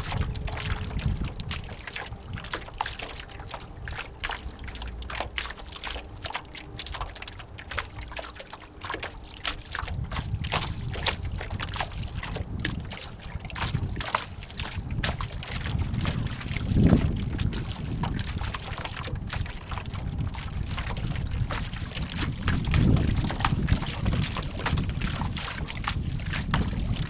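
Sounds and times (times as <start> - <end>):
water splashing against hull: 0.0 - 27.0
wind rumble on microphone: 0.0 - 27.0.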